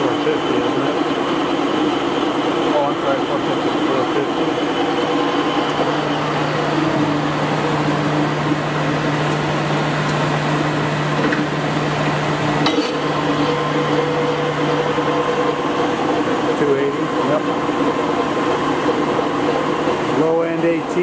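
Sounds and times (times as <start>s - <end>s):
lathe motor humming: 0.9s - 21.0s.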